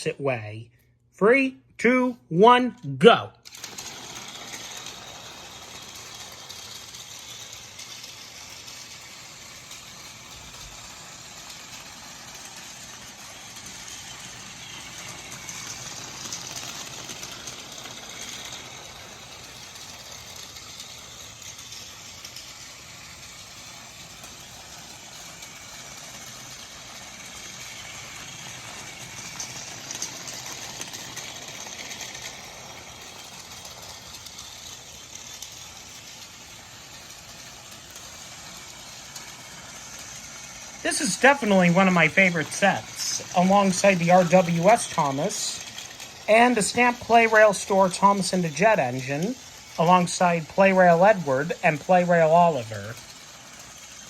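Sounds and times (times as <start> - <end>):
toy train motor whirring: 3.1 - 54.0
toy train wheels rattling: 3.1 - 54.0.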